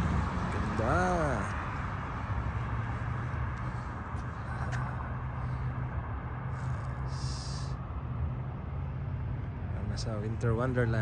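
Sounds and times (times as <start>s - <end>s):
constant low hum: 0.0s - 11.0s
traffic noise: 0.0s - 11.0s.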